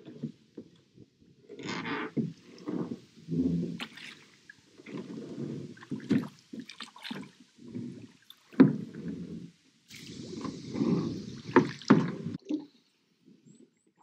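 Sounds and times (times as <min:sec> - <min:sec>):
oars splashing through water: 0:01.5 - 0:14.0.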